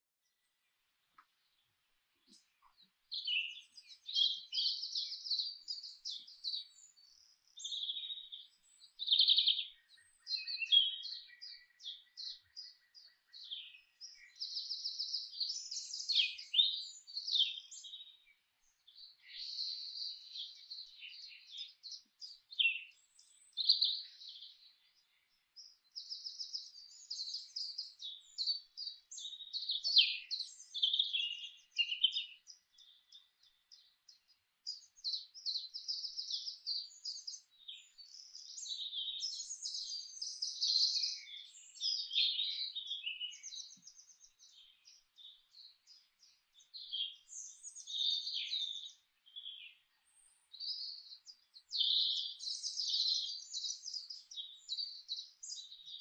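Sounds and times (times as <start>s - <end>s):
songbird trilling and chirping: 2.2s - 56.0s.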